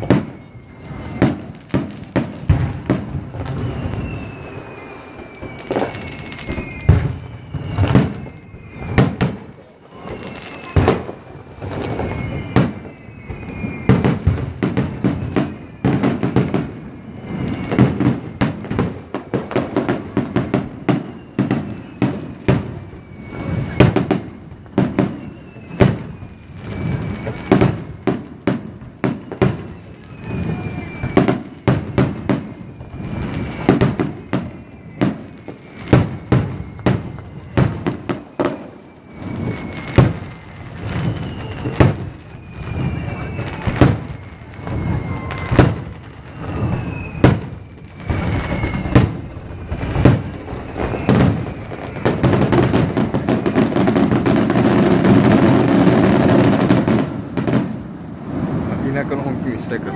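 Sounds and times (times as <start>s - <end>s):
firework shells bursting: 0.0s - 57.8s.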